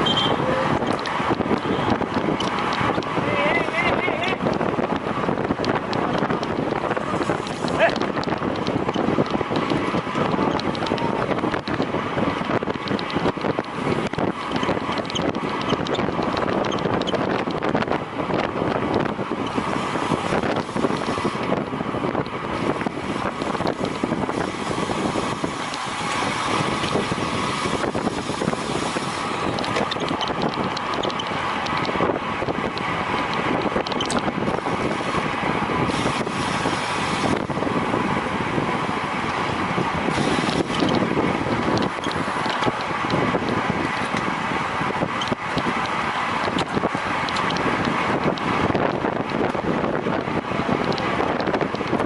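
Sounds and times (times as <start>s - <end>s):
bicycle rolling noise: 0.0s - 52.0s
wind rushing over microphone: 0.0s - 52.0s.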